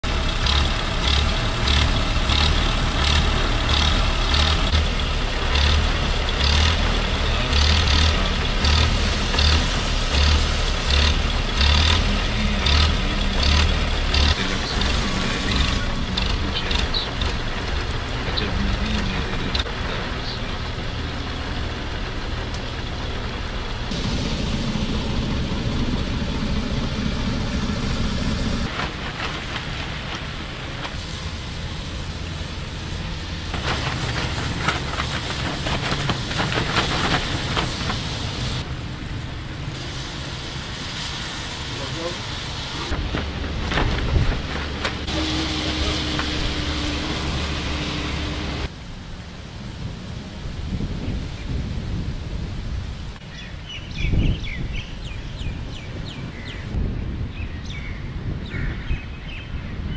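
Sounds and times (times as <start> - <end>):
heavy rain on flooded road: 0.0 - 24.8, 27.4 - 53.5
car driving through rain: 0.0 - 58.3.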